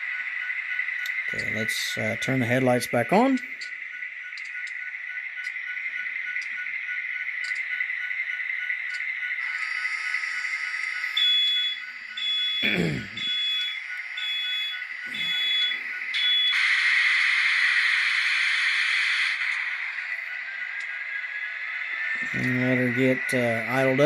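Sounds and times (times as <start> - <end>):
high-pitched engine hum: 0.0 - 24.0.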